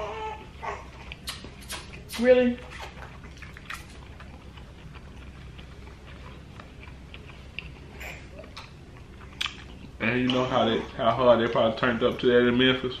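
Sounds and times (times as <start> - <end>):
low hum of room tone: 0.0 - 13.0
soft chewing: 0.4 - 12.6.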